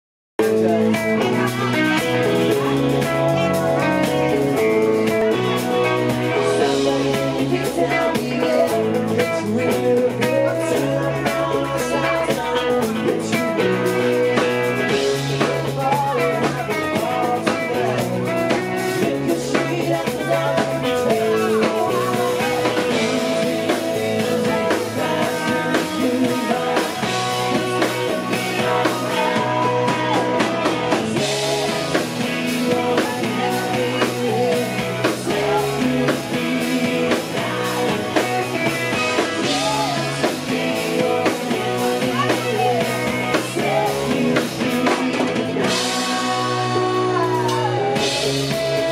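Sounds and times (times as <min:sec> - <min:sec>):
bass guitar: 0:00.4 - 0:48.9
drum kit: 0:00.4 - 0:48.9
electric guitars: 0:00.4 - 0:48.9
man singing lead: 0:00.4 - 0:48.9.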